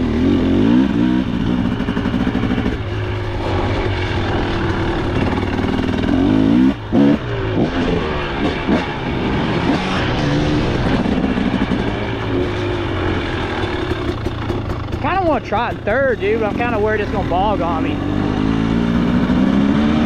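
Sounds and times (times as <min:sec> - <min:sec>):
two-stroke motorbike engine revving: 0:00.0 - 0:20.0.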